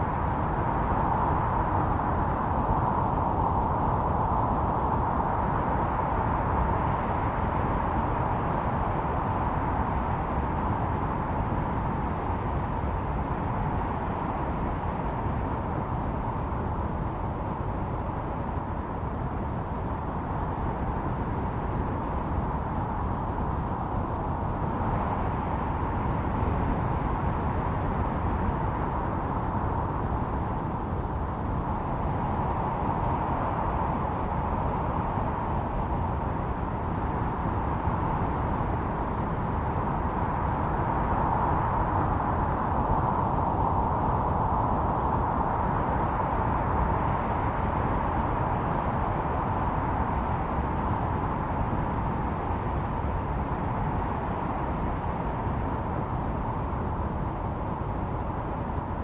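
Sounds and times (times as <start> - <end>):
snowstorm wind howling: 0.0 - 59.0.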